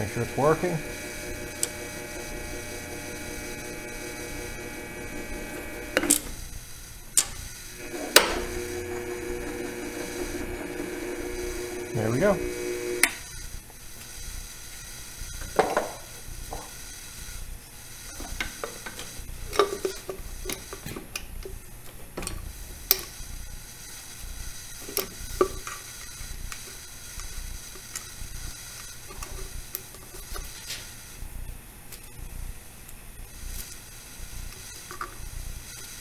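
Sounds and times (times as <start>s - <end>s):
faint steady hum: 0.0s - 35.8s.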